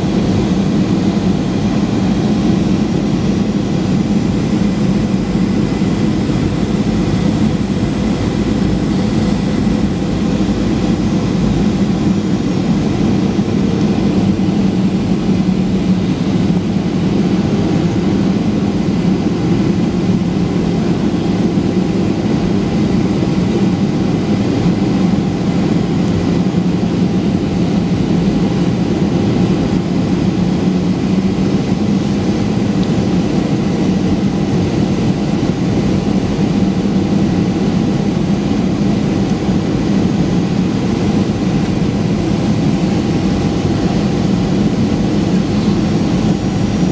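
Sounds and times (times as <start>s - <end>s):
jet cabin drone: 0.0s - 46.9s.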